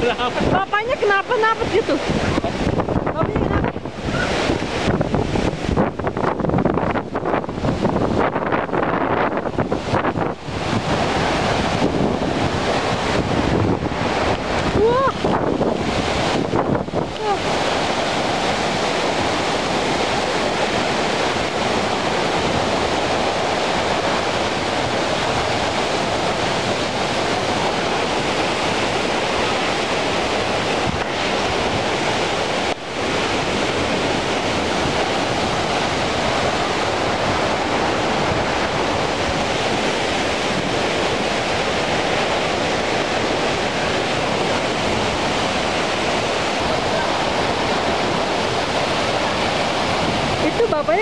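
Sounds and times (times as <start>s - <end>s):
large waterfall rushing: 0.0s - 51.0s
wind buffeting microphone: 0.0s - 51.0s.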